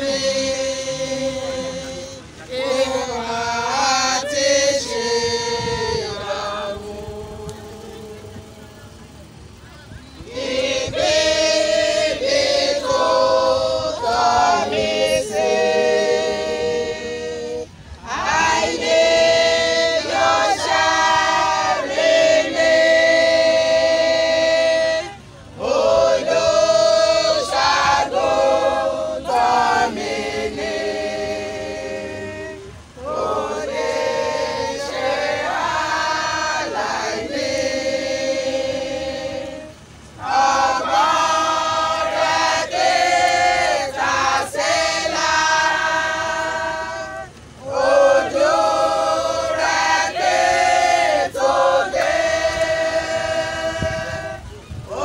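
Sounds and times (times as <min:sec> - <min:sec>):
women's choir singing a hymn: 0:00.0 - 0:55.0.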